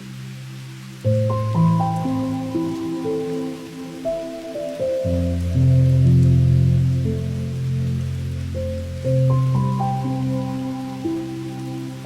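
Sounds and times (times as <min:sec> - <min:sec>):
faint rain hiss: 0:00.0 - 0:12.0
slow ambient music: 0:00.0 - 0:12.0.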